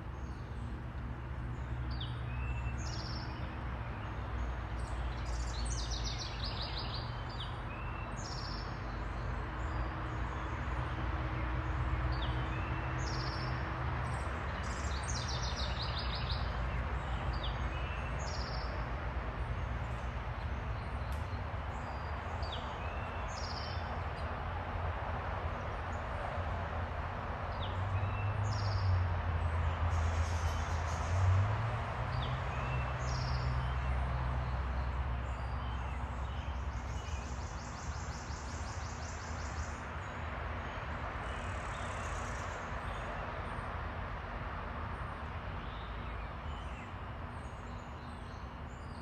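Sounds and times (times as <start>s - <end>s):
small songbirds chirping: 0.0s - 24.4s, 27.5s - 43.7s, 45.0s - 49.0s.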